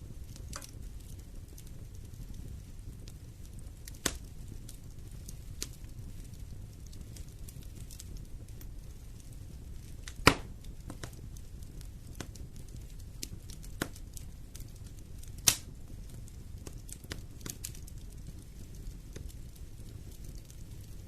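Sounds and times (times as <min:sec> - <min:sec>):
fire low rumble: 0:00.0 - 0:21.0
loud fire pops: 0:00.0 - 0:21.0
wood fire crackling: 0:00.0 - 0:21.0.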